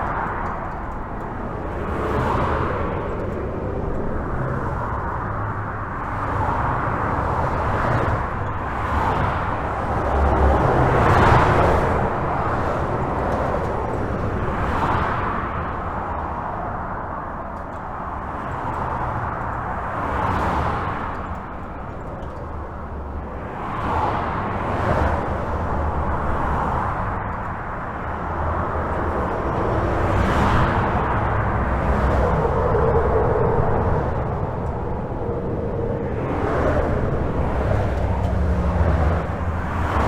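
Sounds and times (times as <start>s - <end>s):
highway traffic rumble: 0.0s - 40.0s
vehicles passing: 0.0s - 40.0s.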